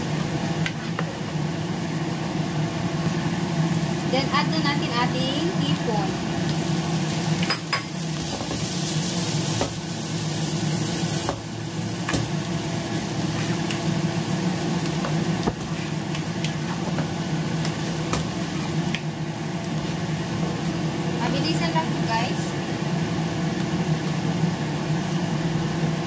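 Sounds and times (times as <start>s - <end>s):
shrimp sizzling in a frying pan: 0.0s - 26.0s.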